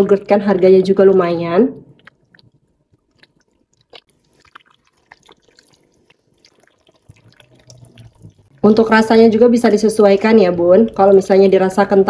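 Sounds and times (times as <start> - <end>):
spatula stirring wet food: 0.0 - 11.9.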